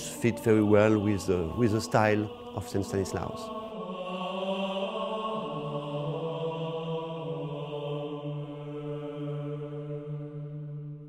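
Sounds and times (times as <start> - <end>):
slow sacred chant music: 0.0 - 11.0.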